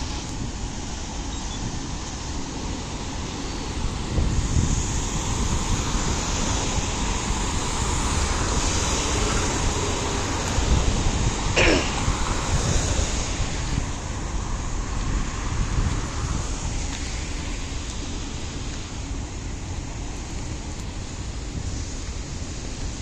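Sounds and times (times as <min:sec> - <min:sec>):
freight train approaching: 0:00.0 - 0:23.0
street traffic rumble: 0:00.0 - 0:23.0
wind buffeting microphone: 0:00.0 - 0:23.0.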